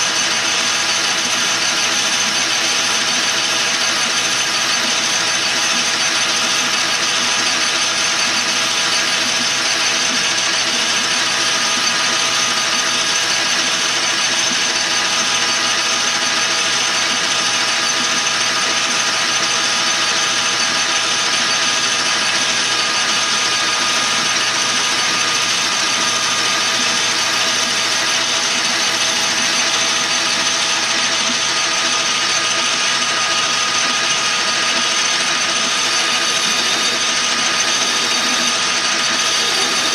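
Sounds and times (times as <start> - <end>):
metal lathe whining: 0.0 - 39.9.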